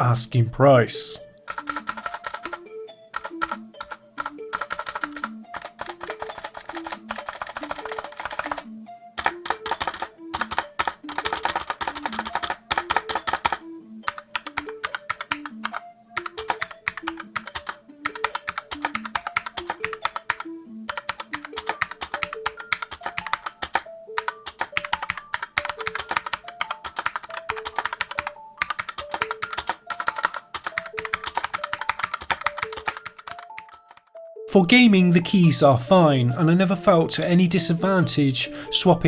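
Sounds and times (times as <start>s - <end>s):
soft background music: 0.0s - 39.0s
mechanical keyboard typing: 1.4s - 34.1s.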